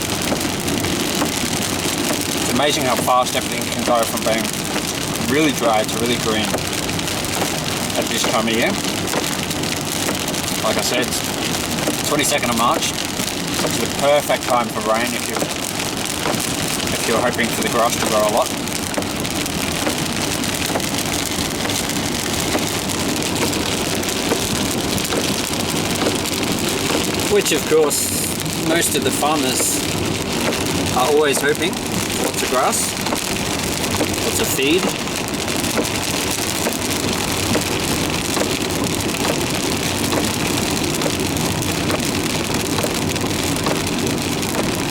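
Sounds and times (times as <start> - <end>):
heavy rain on car roof: 0.0 - 44.9
tyres on wet road: 0.0 - 44.9.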